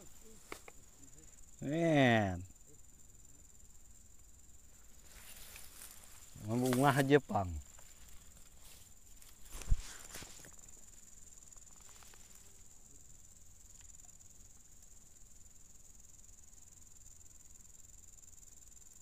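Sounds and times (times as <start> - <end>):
swamp insects calling: 0.0 - 19.0.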